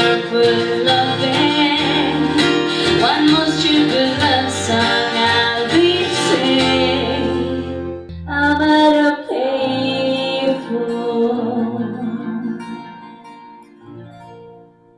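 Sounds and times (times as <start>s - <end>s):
person singing: 0.0s - 13.4s
guitar chords: 0.0s - 14.9s.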